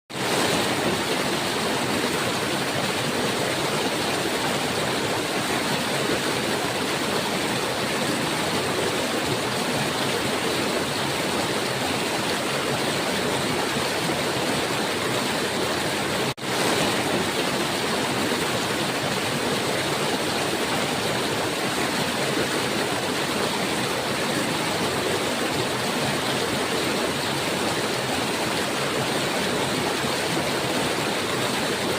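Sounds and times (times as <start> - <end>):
river water flowing: 0.1 - 31.9.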